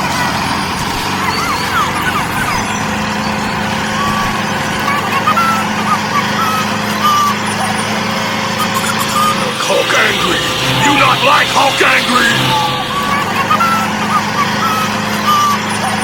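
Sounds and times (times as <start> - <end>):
small motor running: 1.7 - 16.0.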